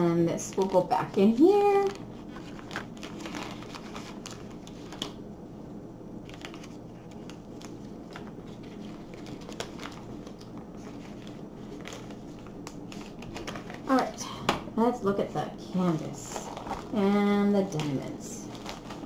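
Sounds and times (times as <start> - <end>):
plastic pouch rustling: 0.4 - 5.2, 6.2 - 14.2, 15.9 - 19.0.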